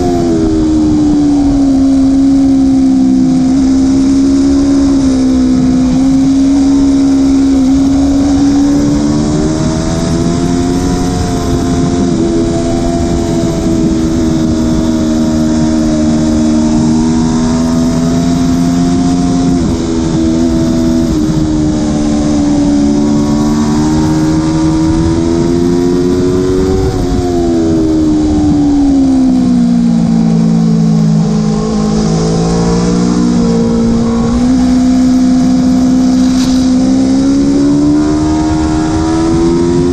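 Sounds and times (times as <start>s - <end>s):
heavy wind rush: 0.0s - 39.9s
motorcycle engine revving: 0.0s - 39.9s.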